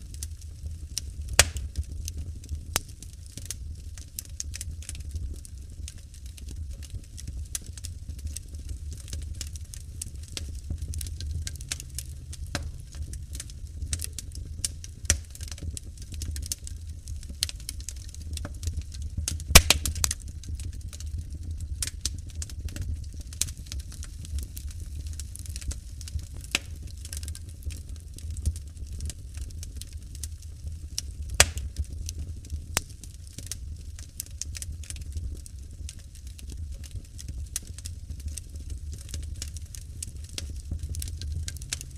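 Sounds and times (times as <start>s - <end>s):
low fire rumble: 0.0s - 41.9s
wood fire crackling: 0.0s - 41.9s
sharp fire pops: 0.1s - 30.2s, 31.0s - 35.4s, 36.5s - 41.9s.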